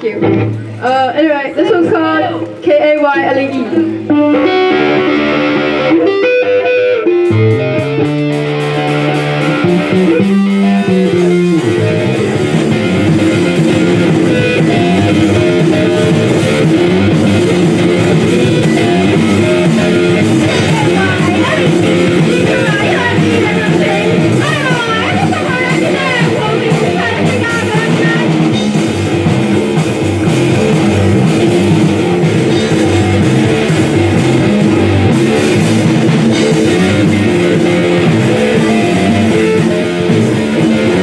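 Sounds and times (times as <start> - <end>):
electric guitar notes: 0.0 - 41.0
live band playing: 0.0 - 41.0.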